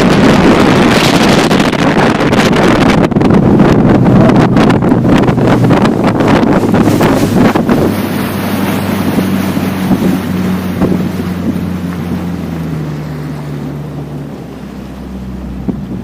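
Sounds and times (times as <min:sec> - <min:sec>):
motorboat engine running: 0:00.0 - 0:16.0
wind buffeting microphone: 0:00.0 - 0:16.0.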